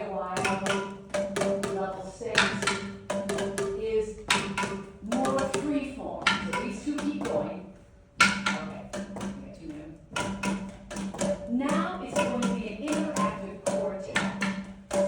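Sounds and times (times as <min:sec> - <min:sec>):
boomwhacker tubes struck: 0:00.0 - 0:15.0.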